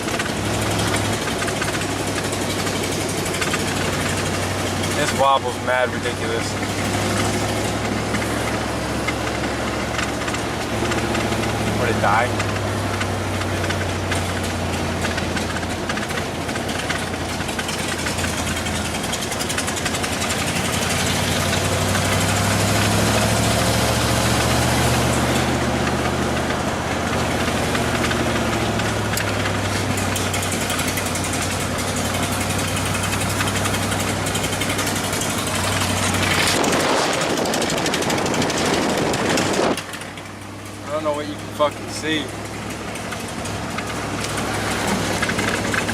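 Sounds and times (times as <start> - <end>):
road noise: 0.0 - 45.9
vehicle engine: 0.0 - 45.9.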